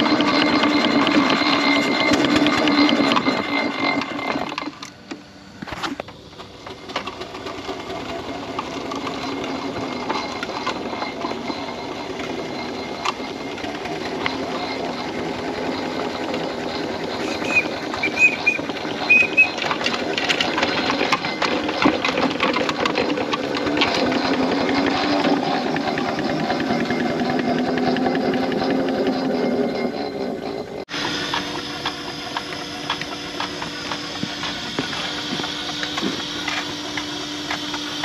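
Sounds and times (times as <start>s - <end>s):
mechanical clatter: 0.0s - 38.0s
steam engine exhaust chuffs: 0.0s - 38.0s.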